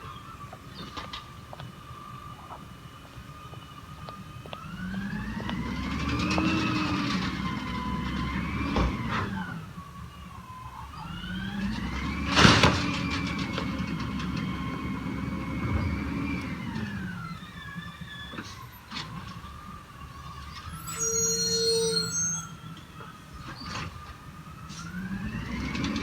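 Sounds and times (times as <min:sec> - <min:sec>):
garbage truck engine and hydraulics: 0:00.0 - 0:26.0.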